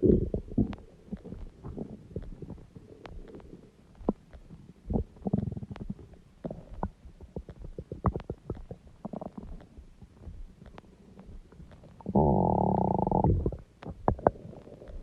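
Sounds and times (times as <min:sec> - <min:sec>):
stomach growling and gurgling: 0:00.0 - 0:15.0.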